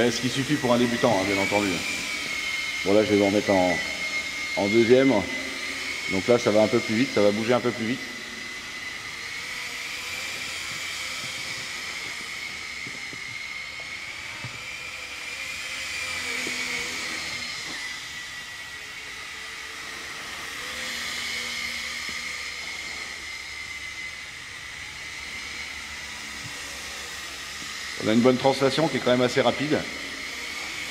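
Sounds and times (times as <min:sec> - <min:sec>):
toy helicopter motor whine: 0:00.0 - 0:30.9.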